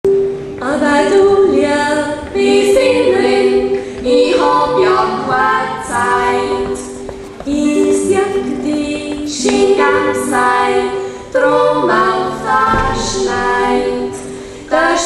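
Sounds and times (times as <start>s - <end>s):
women yodelling in harmony: 0.6s - 15.0s.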